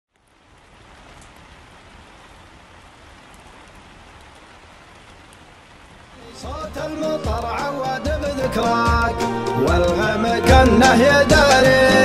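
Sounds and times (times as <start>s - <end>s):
steady rain falling: 0.1s - 12.0s.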